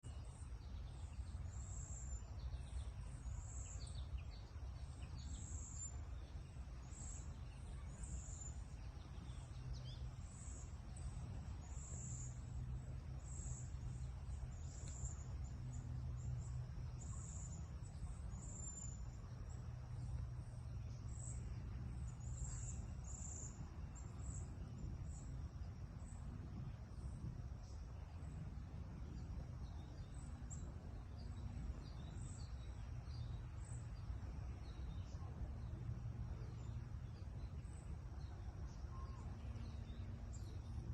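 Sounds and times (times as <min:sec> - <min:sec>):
steady low rumble: 0:00.0 - 0:40.9
high insect chirp: 0:00.7 - 0:40.9.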